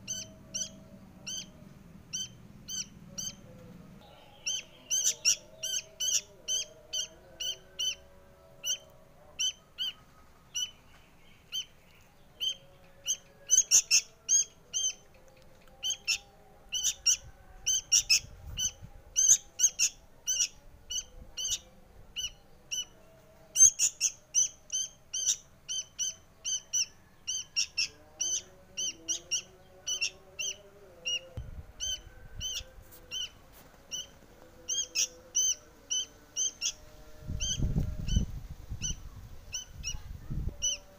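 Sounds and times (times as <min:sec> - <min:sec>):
fledgling bird begging calls: 0:00.0 - 0:10.8, 0:12.4 - 0:15.0, 0:15.8 - 0:23.0, 0:23.6 - 0:40.9.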